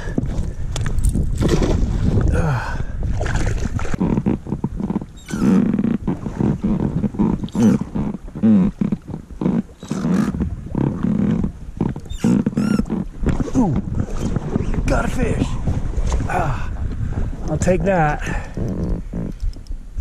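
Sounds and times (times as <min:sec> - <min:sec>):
oar blades splashing water: 0:00.0 - 0:17.5
oars creaking: 0:00.0 - 0:20.0.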